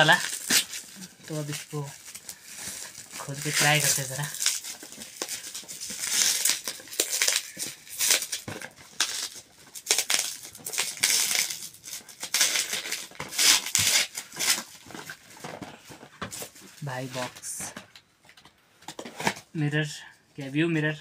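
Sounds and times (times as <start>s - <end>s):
bubble wrap crinkling: 0.0s - 17.7s.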